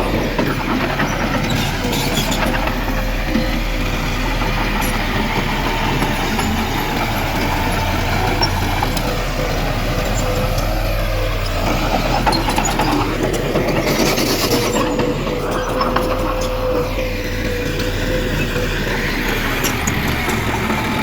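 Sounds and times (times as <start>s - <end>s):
heavy diesel machinery engine: 0.0s - 21.0s.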